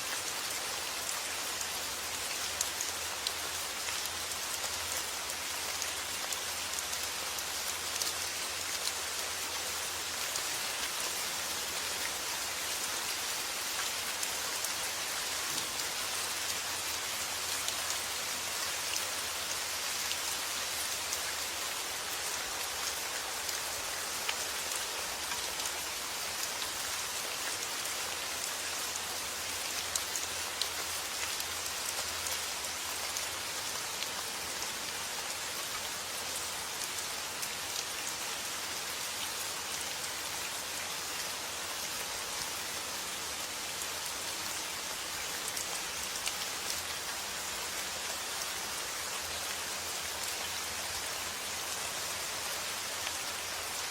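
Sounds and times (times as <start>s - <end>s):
rain falling on a surface: 0.0s - 53.9s.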